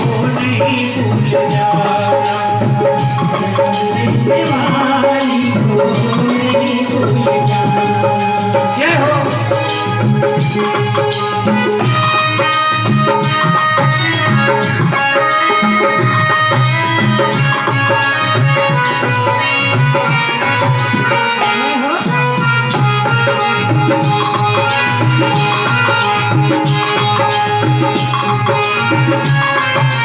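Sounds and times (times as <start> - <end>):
steady drum rhythm: 0.0 - 30.0
sustained instrumental melody: 0.0 - 30.0.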